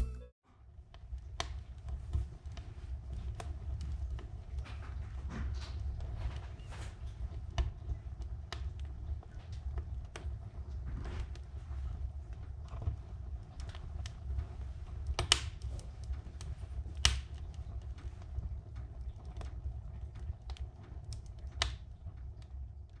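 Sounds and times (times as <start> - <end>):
wood fire crackling: 0.7 - 23.0
loud pops of fire: 1.2 - 23.0.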